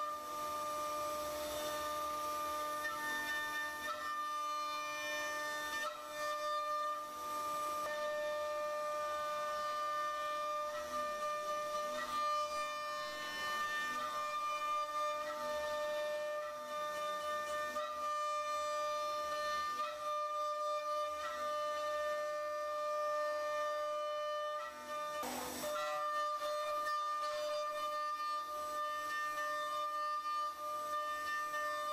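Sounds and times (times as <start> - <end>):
cnc router spindle whine: 0.0 - 31.9.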